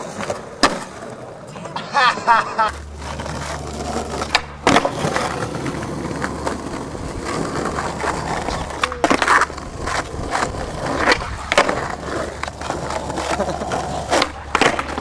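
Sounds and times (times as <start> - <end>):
skateboard wheels rolling on asphalt: 0.0 - 15.0
skateboard clacks: 2.7 - 15.0.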